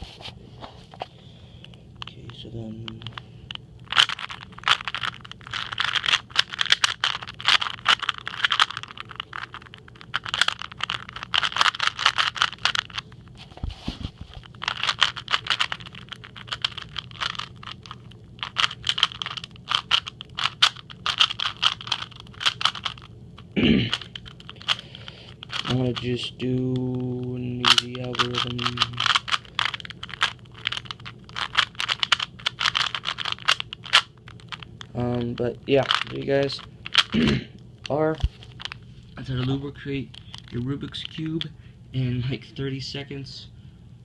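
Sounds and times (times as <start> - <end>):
puzzle cube clicking and rattling: 2.0 - 13.2, 14.2 - 41.5.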